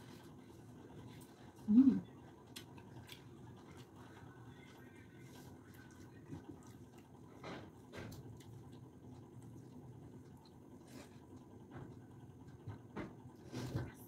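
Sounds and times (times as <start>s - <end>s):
chewing: 0.0s - 12.7s.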